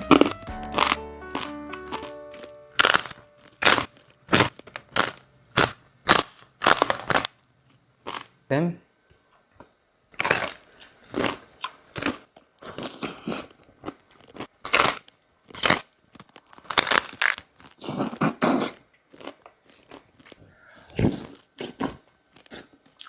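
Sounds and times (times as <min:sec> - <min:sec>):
chewing crispy pork: 0:00.0 - 0:07.4, 0:08.0 - 0:08.3, 0:10.2 - 0:23.0.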